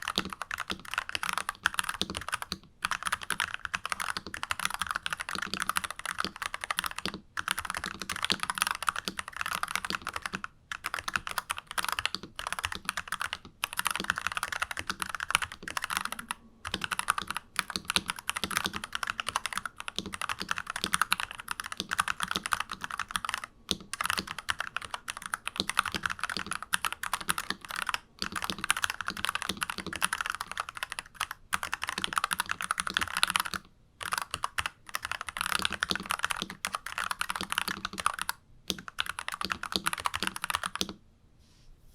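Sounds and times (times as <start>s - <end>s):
mechanical keyboard typing: 0.0s - 41.0s.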